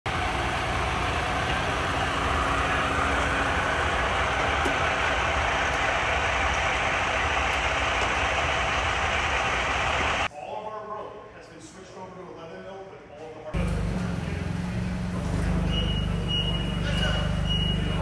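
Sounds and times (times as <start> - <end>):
truck diesel engine idling: 0.1 - 10.3, 13.6 - 18.0.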